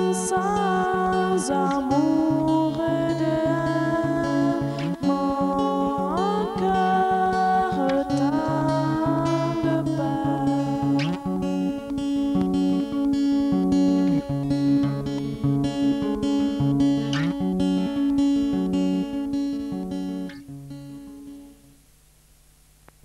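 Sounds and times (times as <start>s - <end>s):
guitar plucked over drone: 0.0s - 22.0s.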